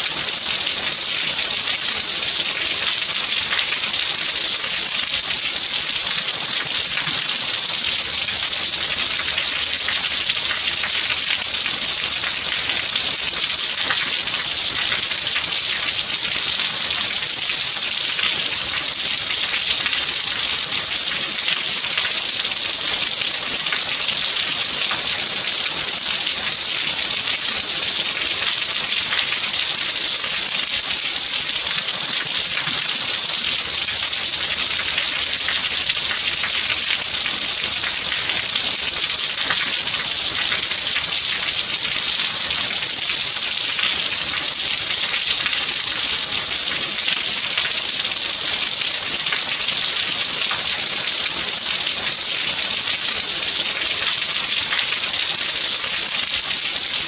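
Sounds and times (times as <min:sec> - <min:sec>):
steady rain falling: 0:00.0 - 0:56.6.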